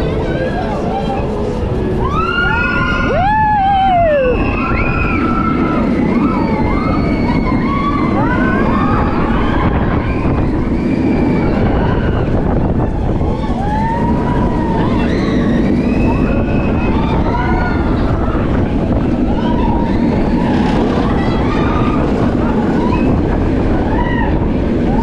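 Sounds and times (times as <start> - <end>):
wind and track rumble: 0.0 - 25.0
riders screaming and whooping: 0.2 - 25.0.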